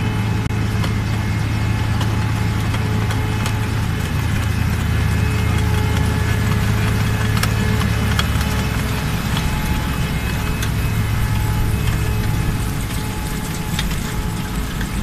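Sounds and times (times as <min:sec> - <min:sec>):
faint clicks and rattles: 0:00.0 - 0:15.0
harvester engine droning: 0:00.0 - 0:15.0.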